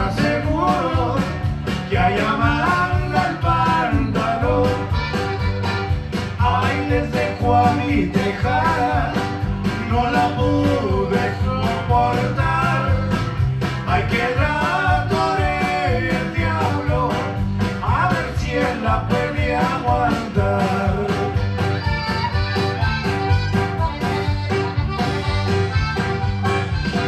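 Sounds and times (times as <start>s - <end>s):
band playing instrumental: 0.0s - 27.0s
button accordion: 0.0s - 27.0s
electric guitar melody: 0.0s - 27.0s.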